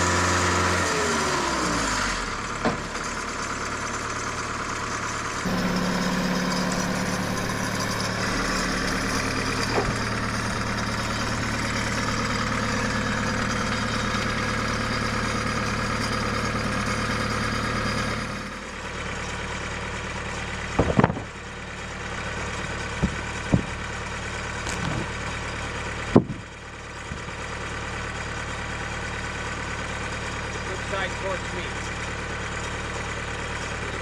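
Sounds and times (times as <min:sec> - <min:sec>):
sawmill engine running: 0:00.0 - 0:34.0.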